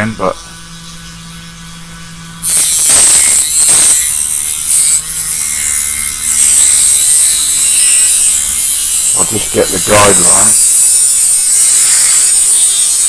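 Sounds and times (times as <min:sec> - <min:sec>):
rotary tool cutting metal: 0:02.4 - 0:13.0.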